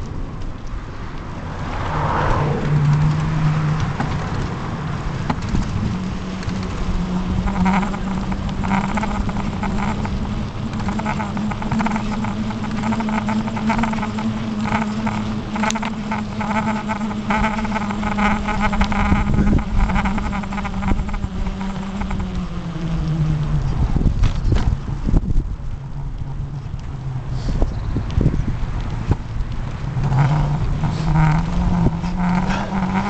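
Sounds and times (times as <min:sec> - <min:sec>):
bicycle hum: 0:00.0 - 0:33.0
tyres rolling on tarmac: 0:00.0 - 0:33.0.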